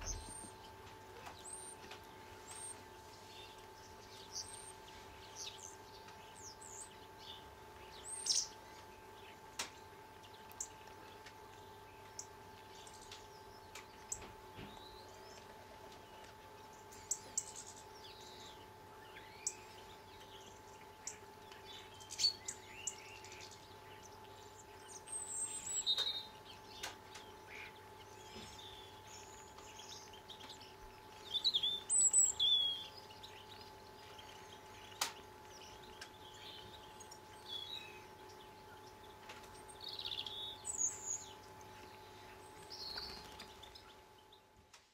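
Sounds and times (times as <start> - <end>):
birds chirping: 0.0 - 44.9
faint steady hum: 0.0 - 44.9.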